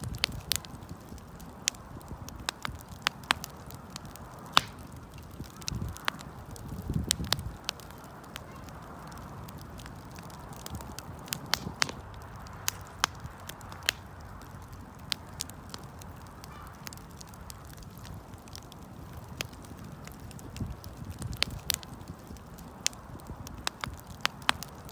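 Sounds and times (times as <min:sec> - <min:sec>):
burning wood popping and crackling: 0:00.0 - 0:24.9
campfire flames rushing: 0:00.0 - 0:24.9.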